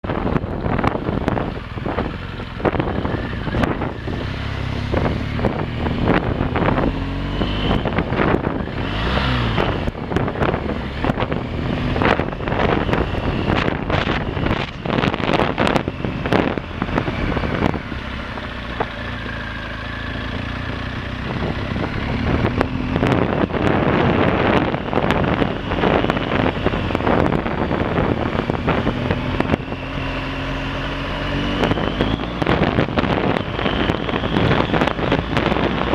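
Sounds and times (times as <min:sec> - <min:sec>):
motorcycle engine revving: 0:00.0 - 0:35.9
wind buffeting microphone: 0:00.0 - 0:35.9.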